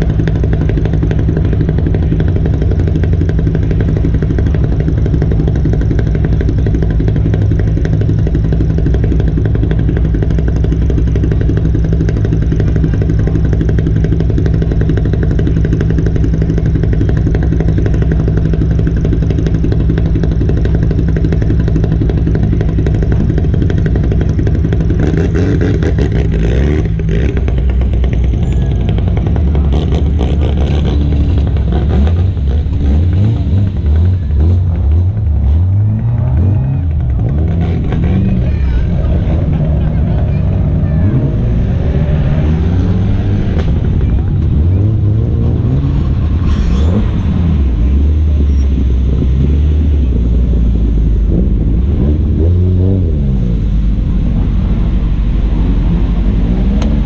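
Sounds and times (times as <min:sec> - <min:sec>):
rally car engine idling: 0:00.0 - 0:57.0.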